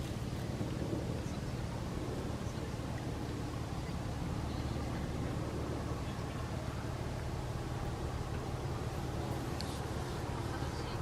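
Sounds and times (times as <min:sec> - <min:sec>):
low rumble: 0:00.0 - 0:11.0
sea waves washing on shore: 0:00.0 - 0:11.0.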